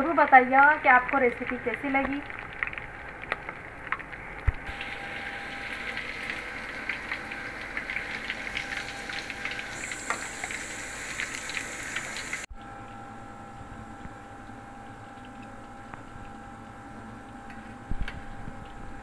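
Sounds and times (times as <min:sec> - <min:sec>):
fish deep-frying in oil: 0:00.0 - 0:19.0.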